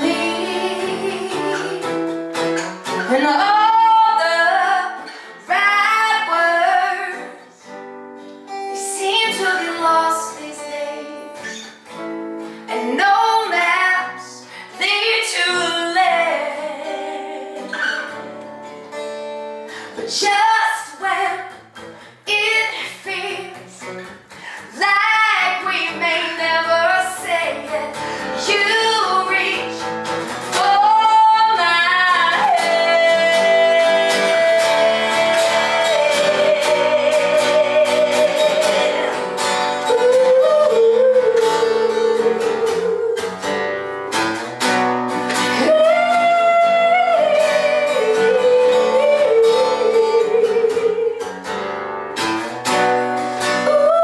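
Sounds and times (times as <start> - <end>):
woman singing: 0.0 - 7.8, 8.6 - 11.8, 12.7 - 18.9, 19.7 - 43.6, 45.3 - 51.5, 53.4 - 54.0
acoustic guitar plucked and strummed: 0.0 - 54.0.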